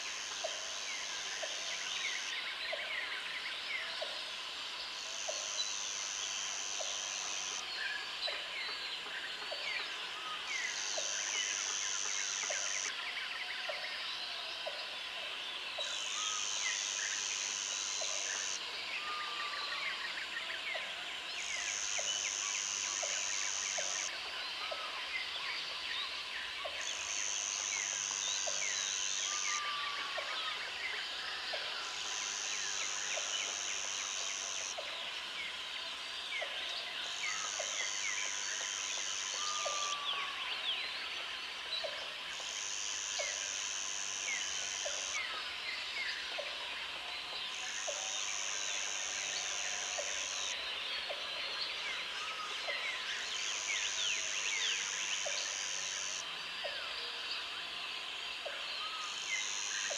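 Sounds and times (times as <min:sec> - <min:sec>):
insect calls: 0:00.0 - 0:59.9.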